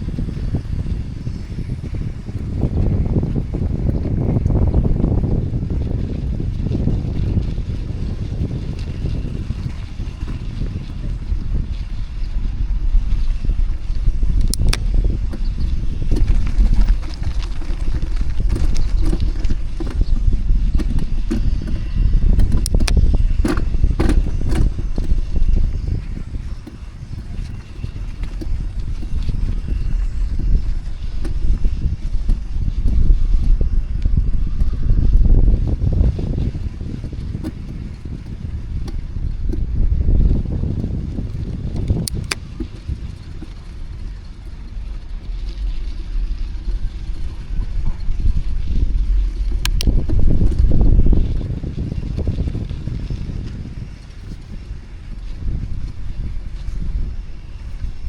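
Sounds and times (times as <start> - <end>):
bicycle road noise: 0.0 - 58.0
wind rumble on microphone: 0.0 - 58.0.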